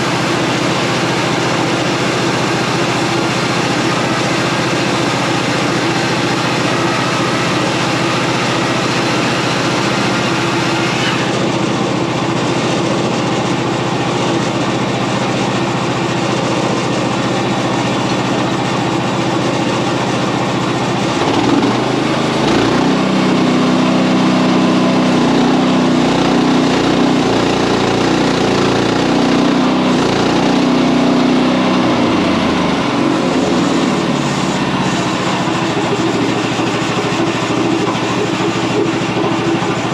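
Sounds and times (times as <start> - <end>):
band saw blade cutting log: 0.0 - 13.7, 20.7 - 39.9
small gas engine running: 0.0 - 39.9.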